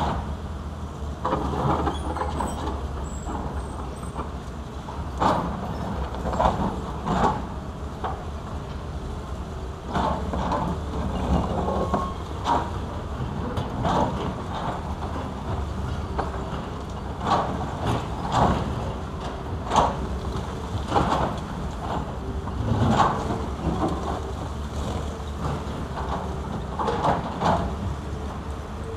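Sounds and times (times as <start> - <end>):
excavator engines running: 0.0 - 28.9.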